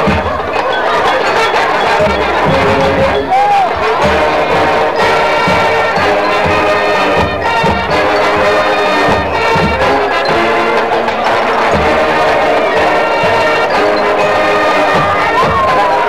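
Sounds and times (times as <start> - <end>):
marching band playing: 0.0 - 16.0
brass sustained chords: 1.3 - 15.3.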